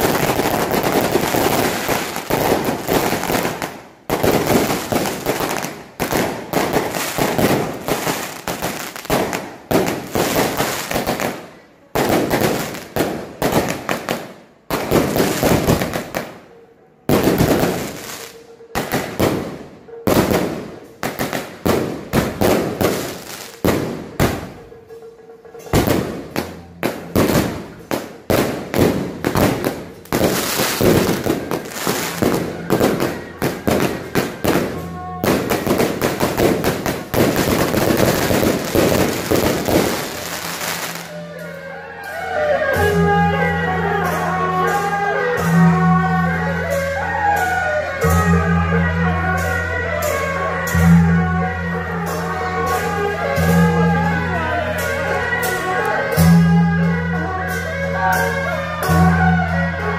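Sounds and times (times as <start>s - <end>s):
firecrackers crackling: 0.0s - 59.9s.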